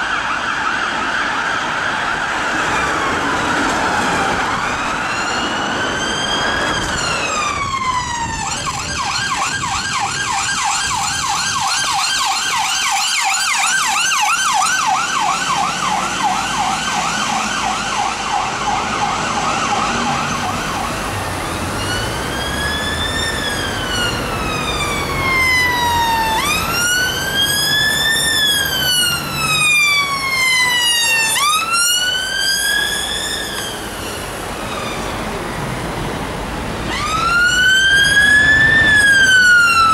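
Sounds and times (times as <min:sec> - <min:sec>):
electronic siren wailing and yelping: 0:00.0 - 0:35.1, 0:36.9 - 0:39.9.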